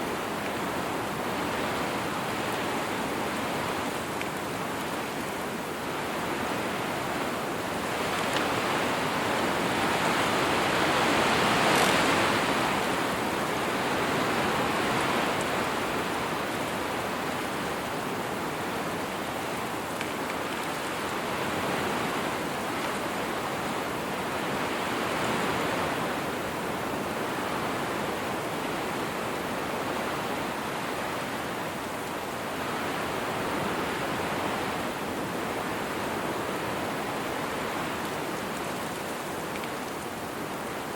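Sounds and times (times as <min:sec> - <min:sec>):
wind blowing in gusts: 0:00.0 - 0:40.9.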